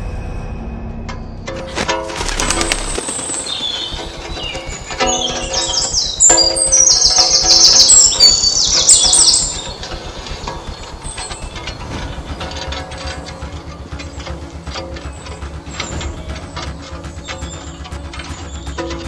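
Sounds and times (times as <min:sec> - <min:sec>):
low steady drone: 0:00.0 - 0:19.0
birds chirping: 0:01.3 - 0:19.0.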